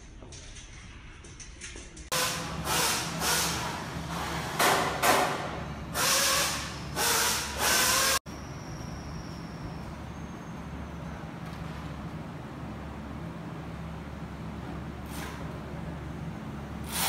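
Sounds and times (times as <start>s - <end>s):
steady low workshop hum: 0.0s - 17.0s.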